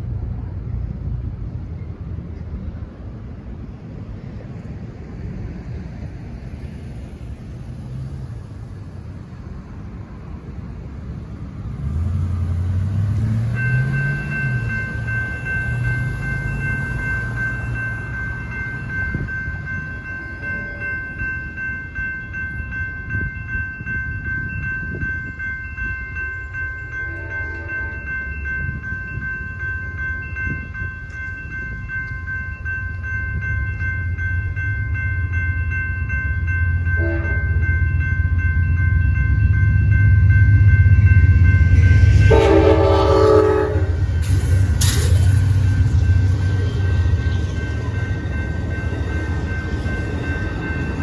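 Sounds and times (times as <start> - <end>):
railroad crossing bells ringing: 0.0 - 51.0.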